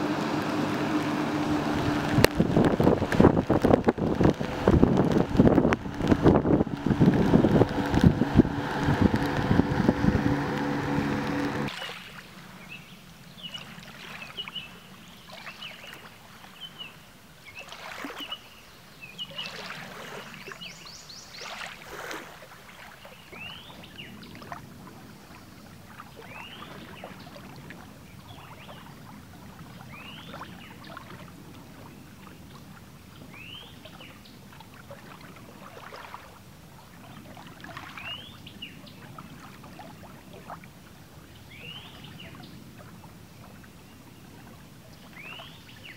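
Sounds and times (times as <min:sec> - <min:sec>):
water lapping at shore: 0:00.0 - 0:45.9.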